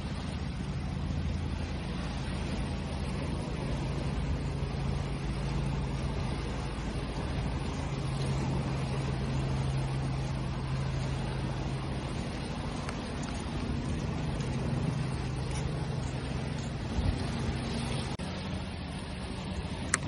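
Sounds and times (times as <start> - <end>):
low engine hum: 0.0 - 20.0
sea waves: 0.0 - 20.0.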